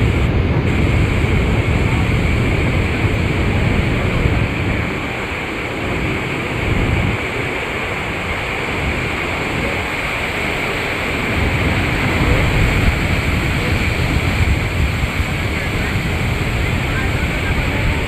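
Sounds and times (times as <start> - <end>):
water rushing: 0.0 - 18.0
wind buffeting microphone: 0.0 - 18.0.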